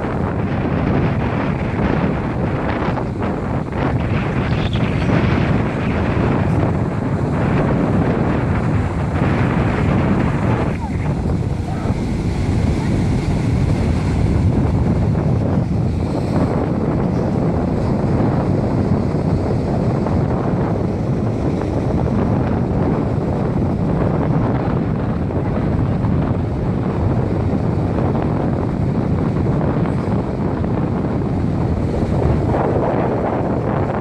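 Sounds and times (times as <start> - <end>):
ocean surf: 0.0 - 34.0
strong wind buffeting microphone: 0.0 - 34.0.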